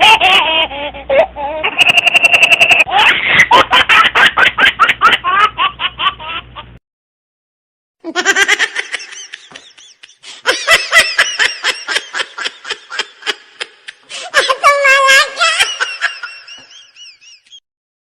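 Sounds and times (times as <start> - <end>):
giggly laughter: 0.0 - 6.8, 8.0 - 17.6
rhythmic ha-ha laughs: 0.0 - 6.8, 8.0 - 17.6.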